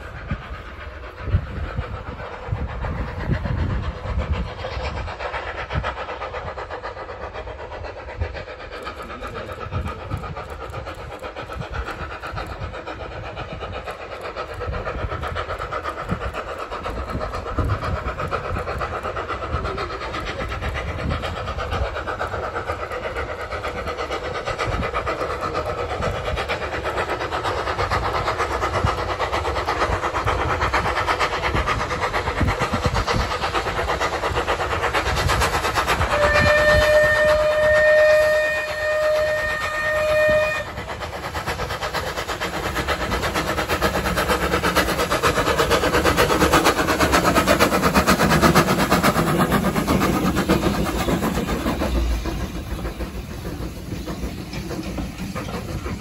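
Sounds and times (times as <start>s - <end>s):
steam locomotive running: 0.0s - 56.0s.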